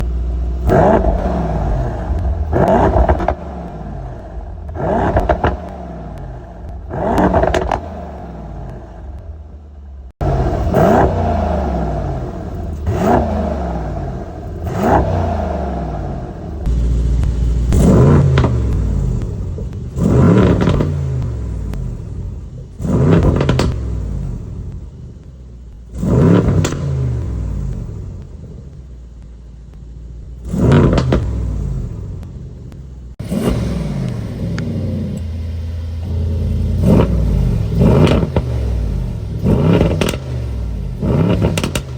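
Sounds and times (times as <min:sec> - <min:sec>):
car engine revving in blips: 0:00.0 - 0:41.9.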